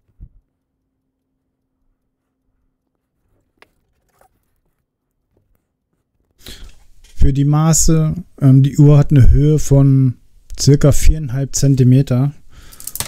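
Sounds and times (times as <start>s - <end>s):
faint clock motor hum: 0.0s - 10.8s.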